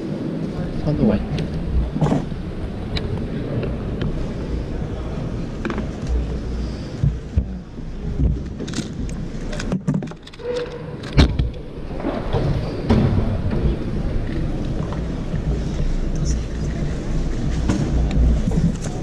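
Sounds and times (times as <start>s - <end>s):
low hall rumble: 0.0s - 19.0s.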